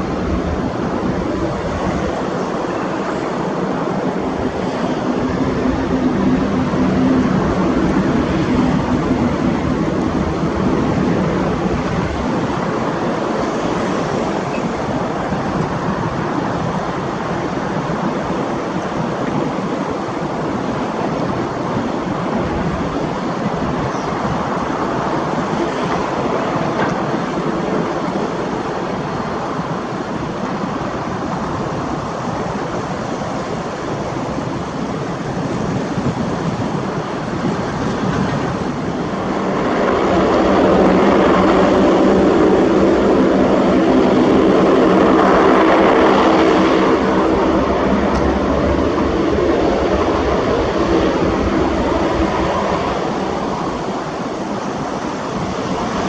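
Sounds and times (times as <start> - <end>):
propeller aircraft drone: 0.0 - 56.0
steady rushing background: 0.0 - 56.0.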